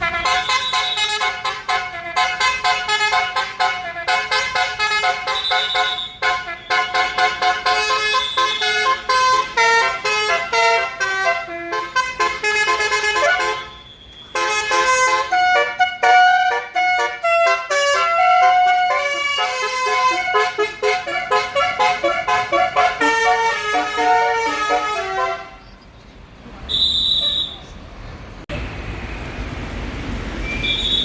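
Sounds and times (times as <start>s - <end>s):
bus horn playing a tune: 0.0s - 25.6s.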